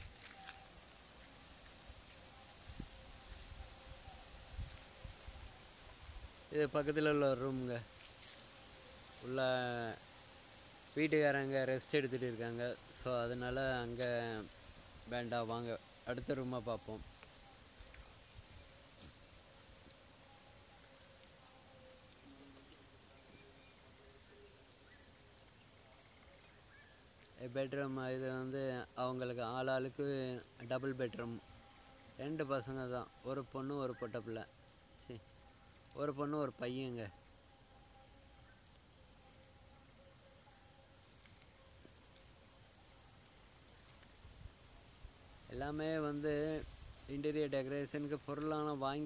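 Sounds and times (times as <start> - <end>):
crickets droning: 0.0 - 49.0
high-pitched insect trill: 0.0 - 49.0.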